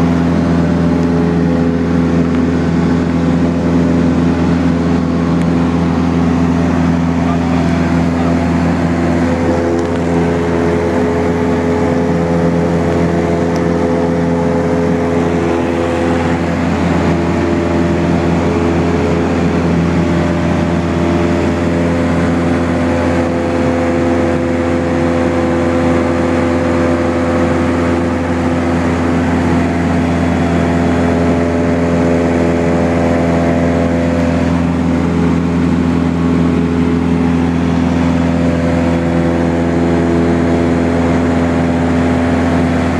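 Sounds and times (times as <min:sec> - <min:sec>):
propeller engine droning: 0:00.0 - 0:42.9.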